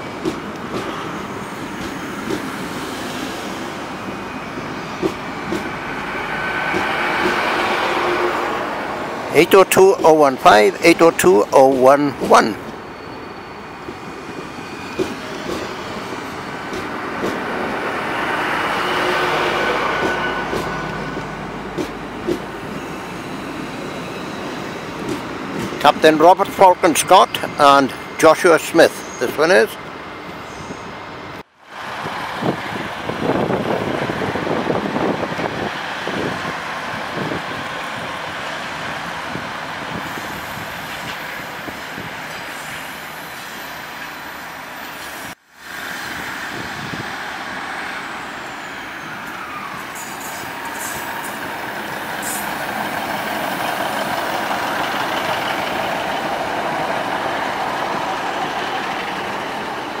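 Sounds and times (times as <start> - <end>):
train engine and wheel noise: 0.0 - 60.0.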